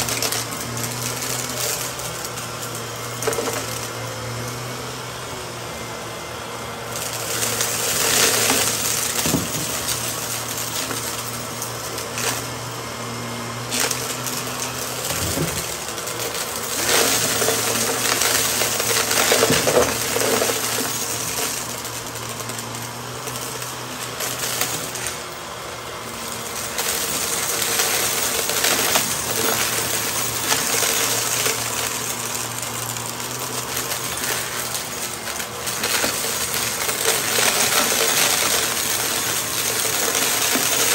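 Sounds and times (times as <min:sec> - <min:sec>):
debris crackling in vacuum: 0:00.0 - 0:05.4, 0:06.4 - 0:40.9
vacuum cleaner motor hum: 0:00.0 - 0:40.9.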